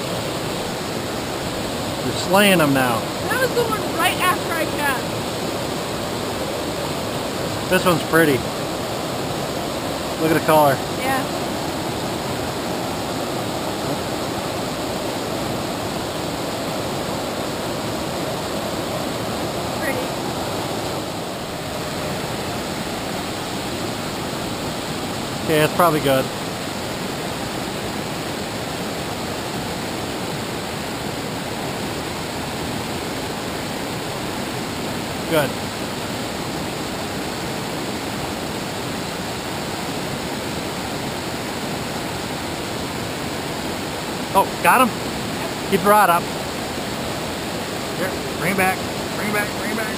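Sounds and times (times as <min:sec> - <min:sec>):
shallow river rushing: 0:00.0 - 0:49.9.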